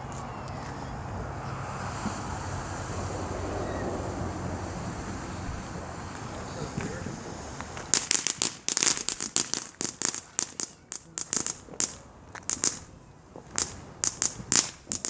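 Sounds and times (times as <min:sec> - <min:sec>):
firework crackling and popping: 0:01.5 - 0:03.6, 0:04.2 - 0:15.0.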